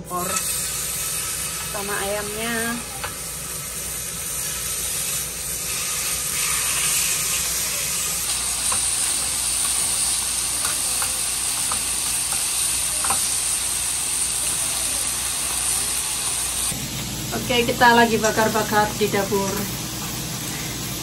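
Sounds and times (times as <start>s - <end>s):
meat sizzling on grill plate: 0.1s - 21.0s.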